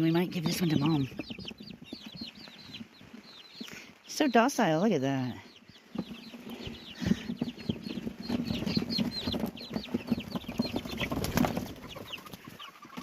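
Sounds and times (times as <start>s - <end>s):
birds scuffling: 0.0s - 13.0s
chicks peeping: 0.0s - 13.0s
hens clucking: 0.0s - 13.0s.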